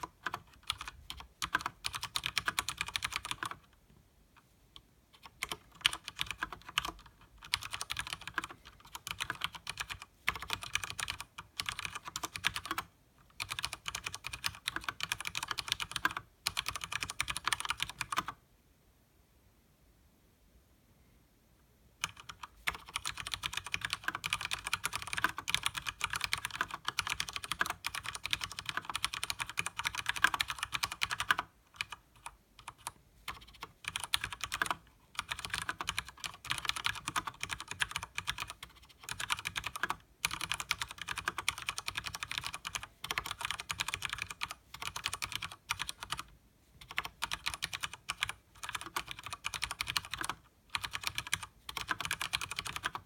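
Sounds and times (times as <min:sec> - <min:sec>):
mechanical keyboard typing: 0:00.0 - 0:03.8, 0:05.1 - 0:18.4, 0:22.0 - 0:53.0.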